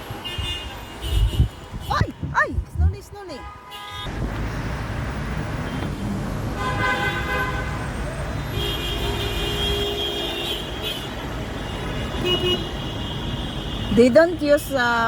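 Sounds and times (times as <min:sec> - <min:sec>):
car horns honking: 0:00.0 - 0:02.4, 0:03.2 - 0:04.2, 0:05.6 - 0:14.9
road noise rumble: 0:00.0 - 0:15.0.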